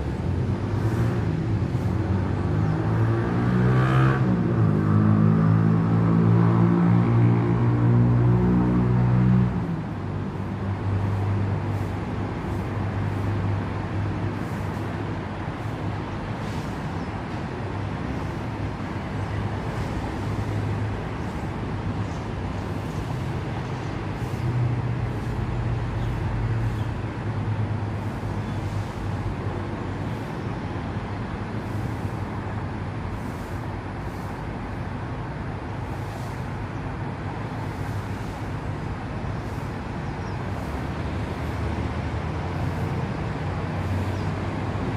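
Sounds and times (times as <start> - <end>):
low engine hum: 0.0 - 44.9
road traffic noise: 0.0 - 44.9.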